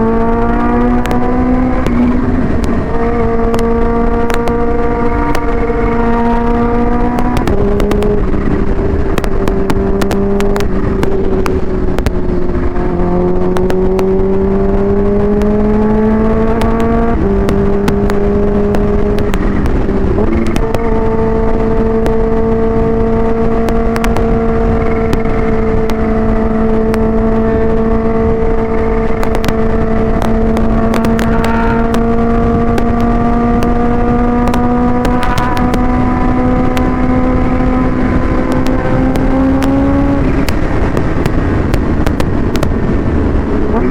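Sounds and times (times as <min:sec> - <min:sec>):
motorcycle engine revving: 0:00.0 - 0:43.9
wind buffeting microphone: 0:00.0 - 0:43.9.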